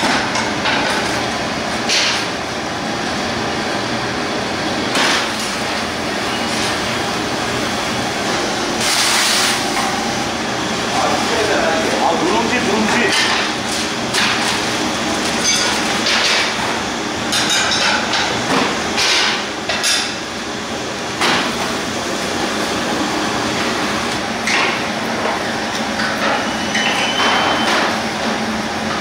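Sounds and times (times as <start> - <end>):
steady background noise: 0.0 - 29.0.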